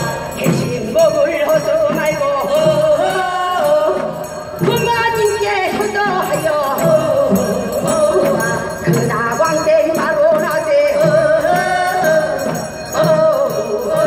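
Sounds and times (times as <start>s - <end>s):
folk singing voices: 0.0s - 14.0s
steady drum beat: 0.0s - 14.0s.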